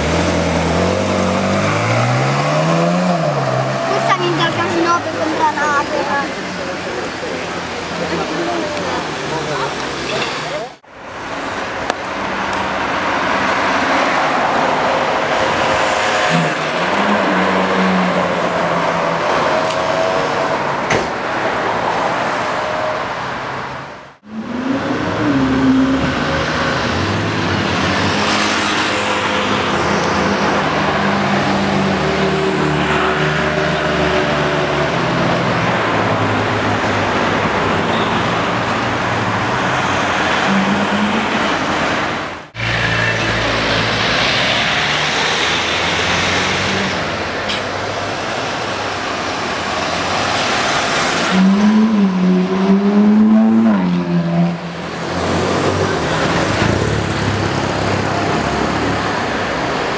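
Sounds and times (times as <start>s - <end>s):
sports car engines driving by: 0.0s - 59.9s.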